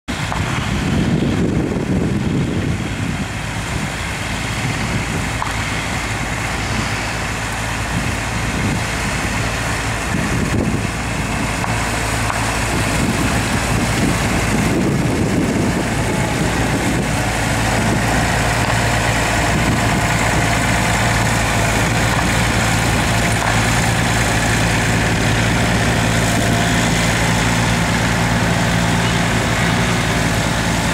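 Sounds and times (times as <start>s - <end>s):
gusty low rumble: 0.1s - 30.9s
tractor diesel engine: 0.1s - 30.9s.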